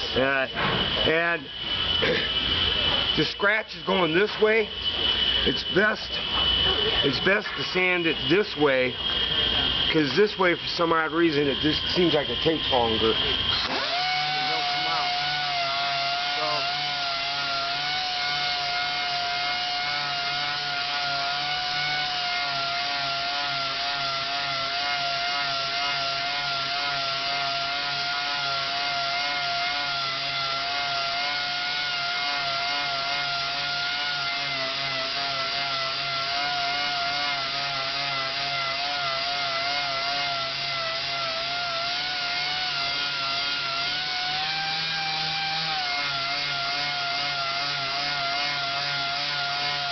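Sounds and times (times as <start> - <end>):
orbital sander whining: 0.0 - 49.9.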